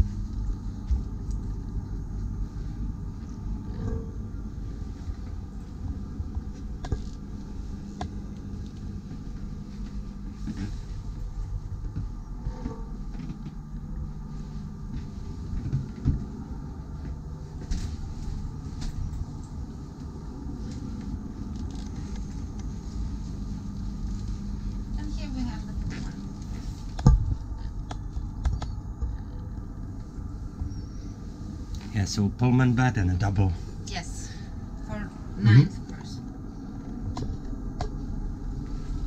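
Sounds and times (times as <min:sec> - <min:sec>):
low machinery hum: 0:00.0 - 0:39.0.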